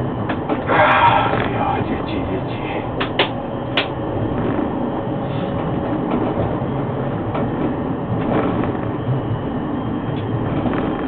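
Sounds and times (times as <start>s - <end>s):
tram wheels rumbling: 0.0s - 11.0s.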